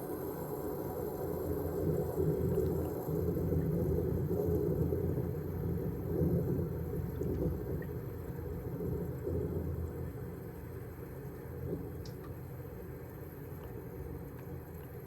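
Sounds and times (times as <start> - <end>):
window air conditioner running: 0.0 - 15.0.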